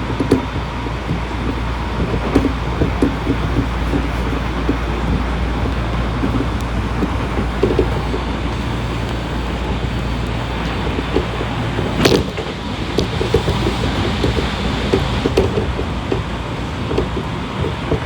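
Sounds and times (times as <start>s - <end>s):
low motor hum: 0.0s - 18.0s
train wheels rumbling on rail: 0.0s - 18.0s.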